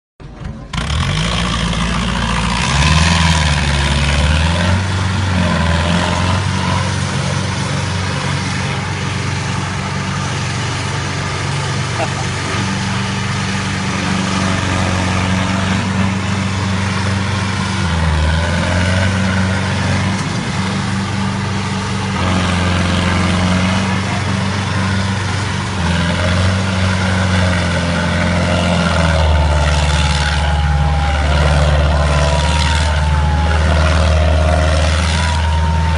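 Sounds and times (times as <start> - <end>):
tractor engine running: 0.2 - 35.9.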